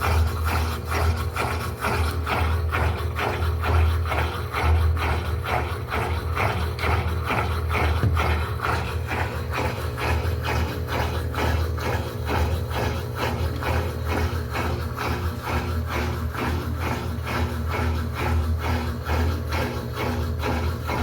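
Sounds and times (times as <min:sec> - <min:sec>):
washing machine agitation strokes: 0:00.0 - 0:21.0
washing machine motor hum: 0:00.0 - 0:21.0.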